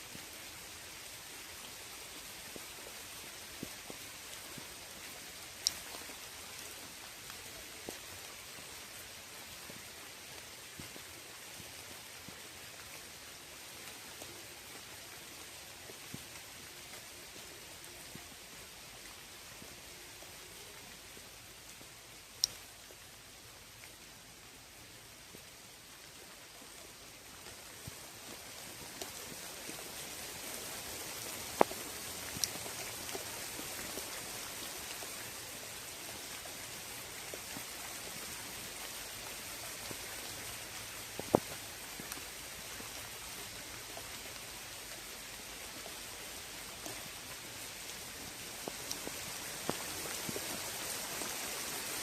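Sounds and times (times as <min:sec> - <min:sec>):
close raindrops tapping: 0:00.0 - 0:52.0
rain hissing on a lake: 0:00.0 - 0:52.0.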